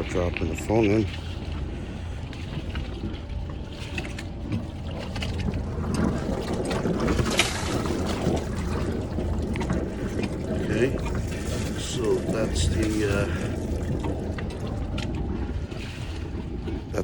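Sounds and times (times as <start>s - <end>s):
boat engine idling hum: 0.0s - 17.0s
water splashing into sea: 0.0s - 17.0s.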